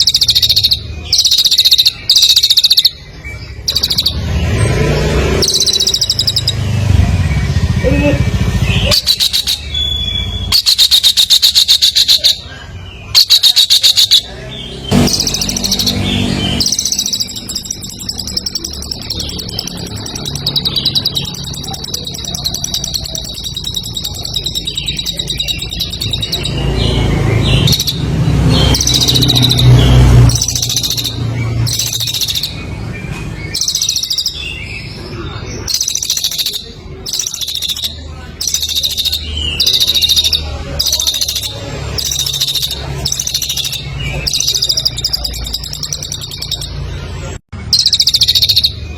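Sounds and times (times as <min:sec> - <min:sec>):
songbird buzzy trilling song: 0:00.0 - 0:48.9.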